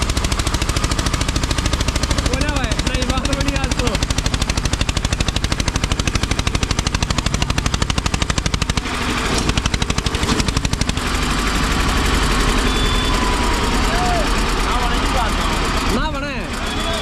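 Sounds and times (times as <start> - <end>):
tractor diesel engine chugging: 0.0 - 17.0.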